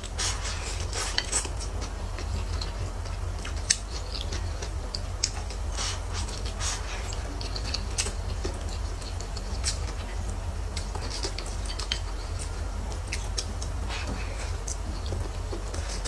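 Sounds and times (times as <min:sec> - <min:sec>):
steady low hum: 0:00.0 - 0:16.0
chewing and wet mouth clicks: 0:00.8 - 0:16.0.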